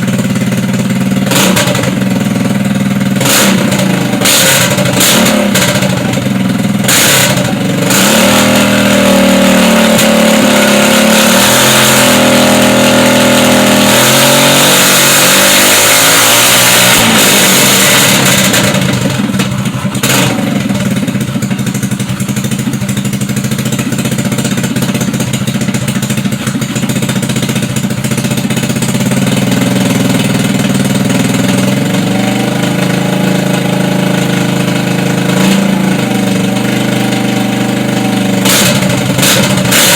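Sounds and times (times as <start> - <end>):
scooter engine revving and idling: 0.0 - 39.9.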